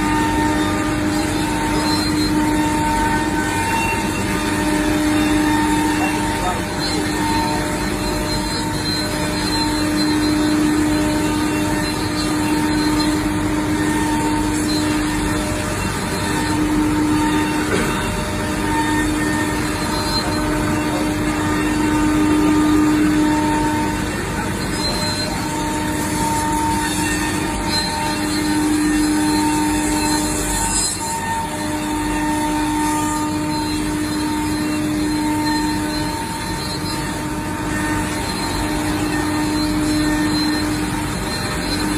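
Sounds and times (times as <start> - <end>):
cnc router running: 0.0 - 41.9.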